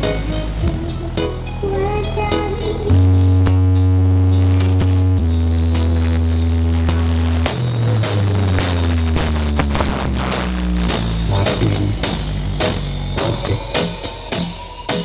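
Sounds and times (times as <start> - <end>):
electronic music with heavy bass: 0.0 - 15.0.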